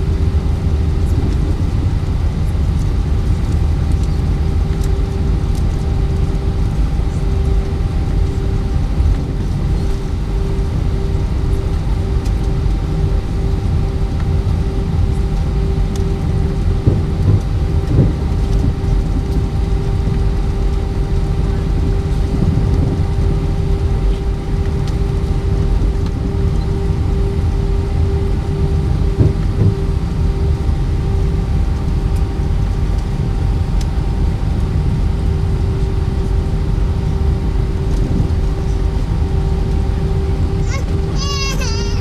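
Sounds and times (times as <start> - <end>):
jet engine rumble in cabin: 0.0 - 42.0.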